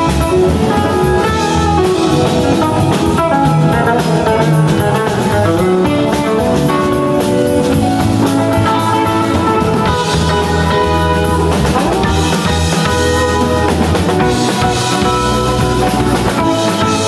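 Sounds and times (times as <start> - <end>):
drum kit: 0.0 - 17.0
electric guitar: 0.0 - 17.0
keyboards: 0.0 - 17.0.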